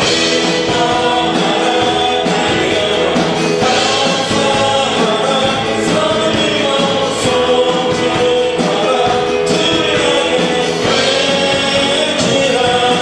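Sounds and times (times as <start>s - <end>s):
band accompaniment: 0.0s - 13.0s
congregation singing: 0.0s - 13.0s.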